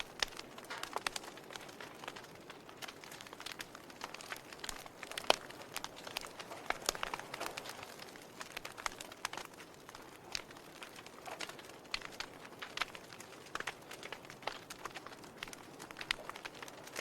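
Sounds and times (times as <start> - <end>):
log fire crackling: 0.0 - 17.0.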